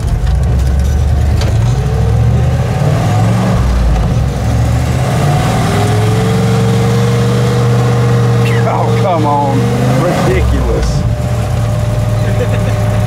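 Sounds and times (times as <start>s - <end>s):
truck engine revving: 0.0s - 13.0s
rising turbo whine: 1.1s - 13.0s.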